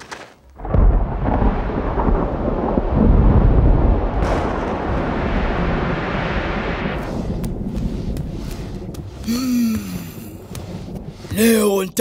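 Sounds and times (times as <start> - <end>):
thunder rumbling: 0.6 - 11.7.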